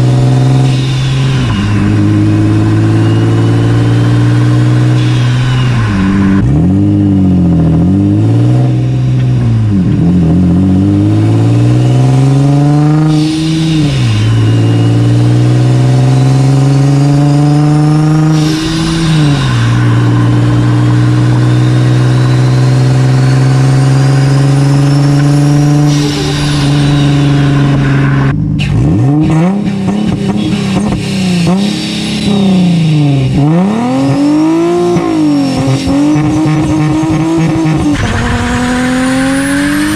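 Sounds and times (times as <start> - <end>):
turbocharger whistle: 0.0 - 9.2, 10.8 - 39.9
car engine revving: 0.0 - 39.9.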